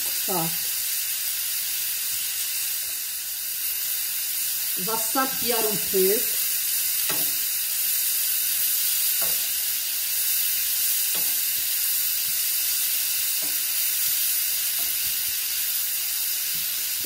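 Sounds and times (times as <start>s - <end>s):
leeks sizzling in a frying pan: 0.0s - 17.0s.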